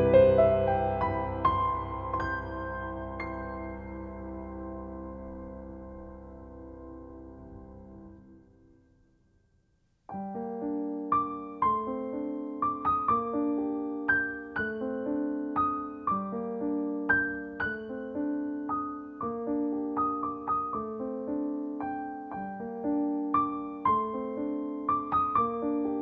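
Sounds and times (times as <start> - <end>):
gentle piano melody: 0.0 - 9.0, 10.1 - 26.0.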